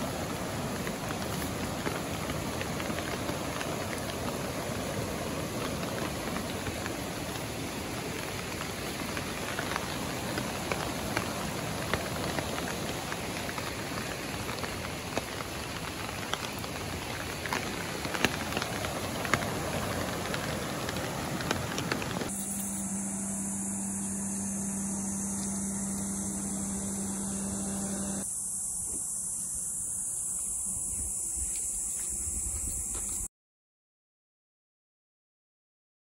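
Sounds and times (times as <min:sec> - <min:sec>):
water hissing: 0:00.0 - 0:33.3.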